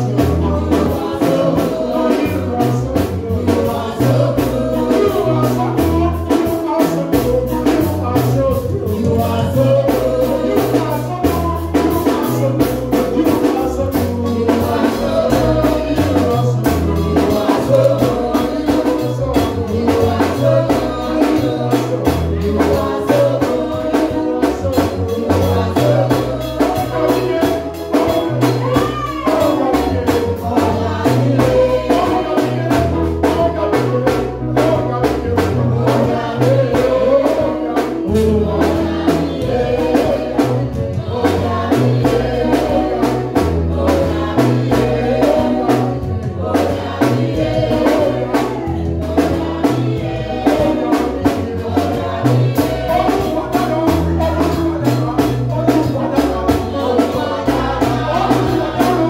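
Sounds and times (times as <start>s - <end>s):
bass line: 0.0s - 59.0s
drum kit beat: 0.0s - 59.0s
gospel singing: 0.0s - 59.0s.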